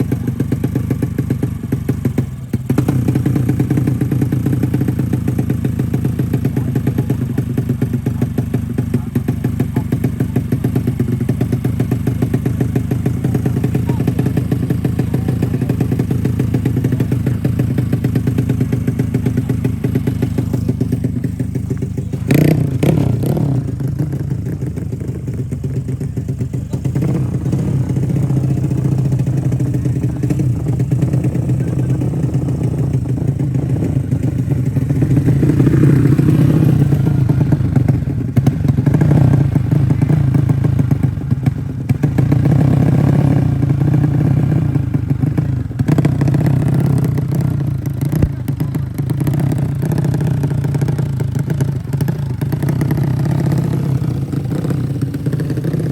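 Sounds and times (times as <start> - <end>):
motorcycle engines running: 0.0 - 55.9.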